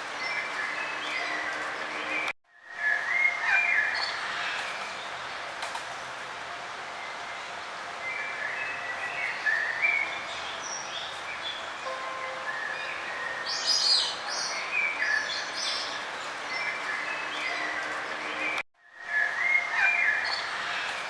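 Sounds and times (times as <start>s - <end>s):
outdoor background hiss: 0.0s - 21.0s
songbirds chirping and trilling: 0.0s - 21.0s.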